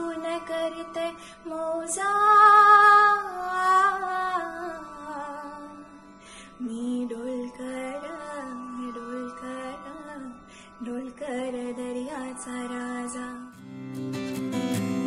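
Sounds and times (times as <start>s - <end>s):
woman singing unaccompanied: 0.0s - 6.0s, 6.6s - 13.6s.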